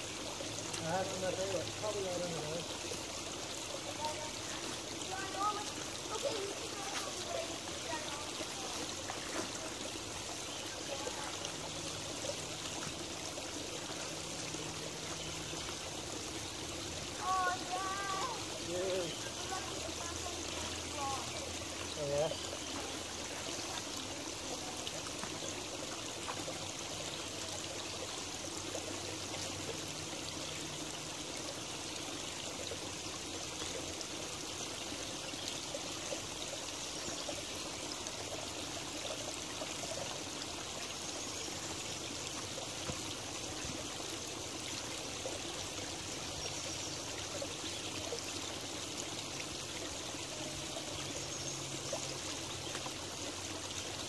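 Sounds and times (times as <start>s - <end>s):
creek water trickling over stones: 0.0s - 54.0s.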